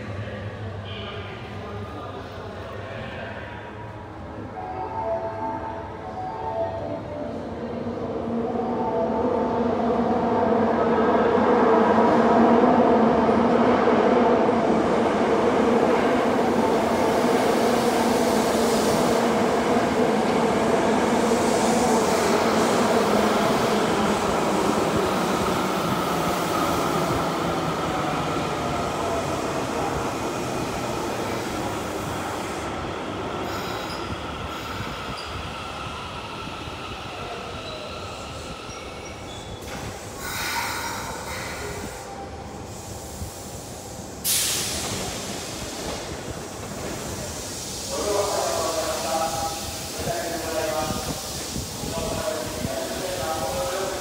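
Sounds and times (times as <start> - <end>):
subway train rumbling on rails: 0.0 - 54.0.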